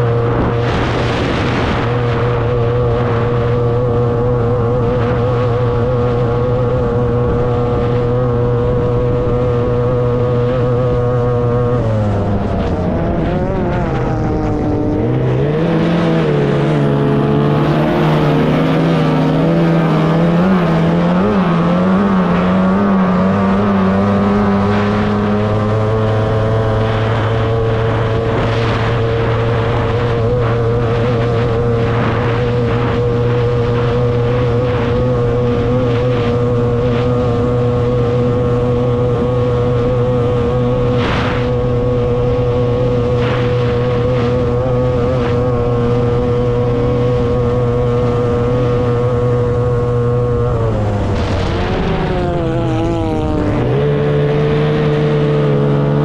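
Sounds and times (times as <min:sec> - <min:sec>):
outboard motor running high-pitched: 0:00.0 - 0:56.0.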